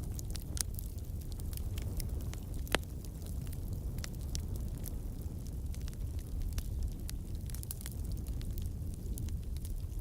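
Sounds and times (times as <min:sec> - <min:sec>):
crackles and pops of burning logs: 0:00.0 - 0:10.0
low rumble of flames: 0:00.0 - 0:10.0.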